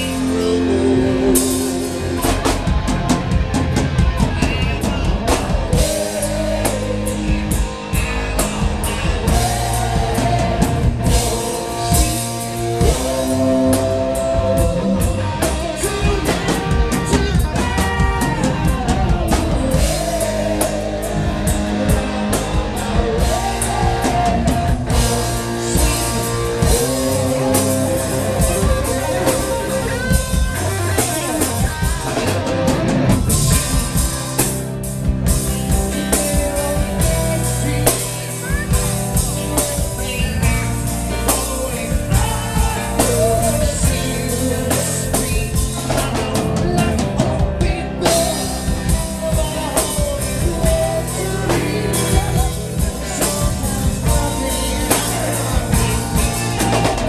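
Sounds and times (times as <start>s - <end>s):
melodic guitar line: 0.0s - 57.0s
rock band playing loud: 0.0s - 57.0s.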